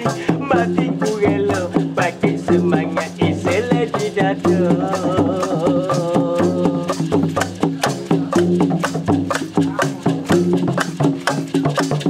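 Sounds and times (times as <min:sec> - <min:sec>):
hand percussion: 0:00.0 - 0:12.0
rattling shaker: 0:00.0 - 0:12.0.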